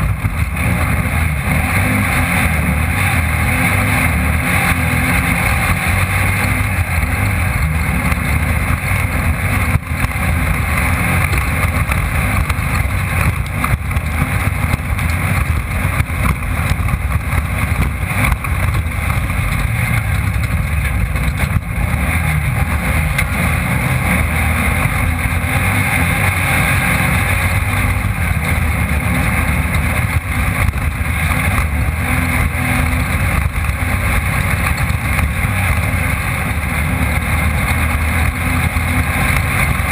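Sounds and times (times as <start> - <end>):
car rattling over rough ground: 0.0 - 39.9
race car engine running hard: 0.0 - 39.9.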